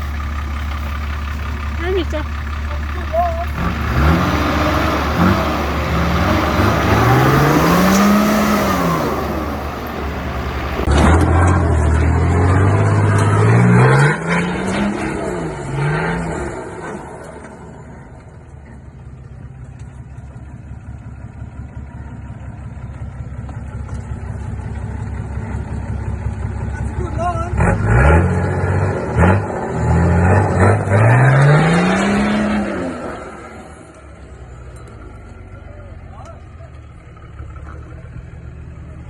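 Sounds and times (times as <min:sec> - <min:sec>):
engine revving: 0:00.0 - 0:18.8, 0:26.2 - 0:39.0.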